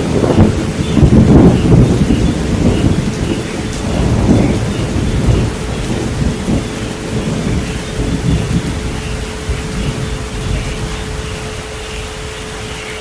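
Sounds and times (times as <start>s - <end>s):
rolling thunder: 0.0s - 12.8s
rain falling: 0.0s - 13.0s.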